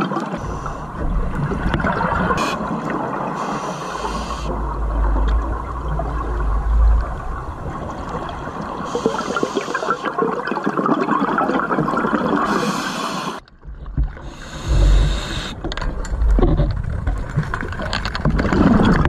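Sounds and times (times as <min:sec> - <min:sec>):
underwater bubbles gurgling: 0:00.0 - 0:19.0.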